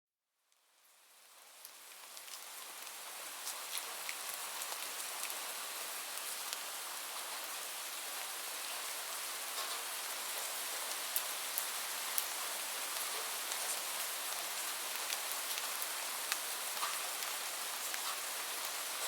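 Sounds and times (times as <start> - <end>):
light rain hiss: 0.3 - 19.0
raindrops ticking on a surface: 0.5 - 19.0.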